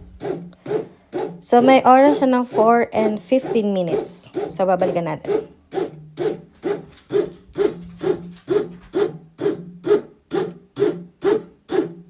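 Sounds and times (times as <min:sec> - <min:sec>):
bread maker kneading dough: 0:00.0 - 0:12.0.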